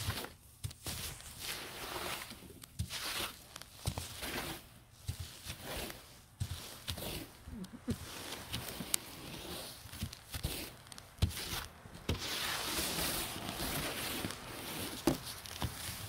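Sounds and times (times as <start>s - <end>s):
brush sweeping snow: 1.0s - 16.0s.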